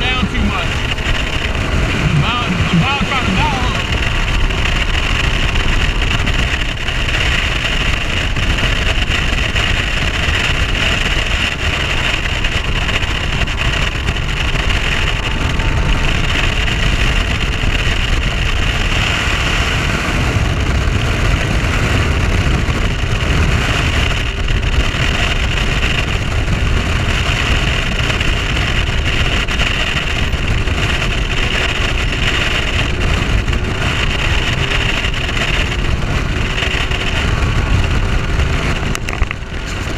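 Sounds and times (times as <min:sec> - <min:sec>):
outboard engine drone: 0:00.0 - 0:39.9
rush of wind and water: 0:00.0 - 0:39.9.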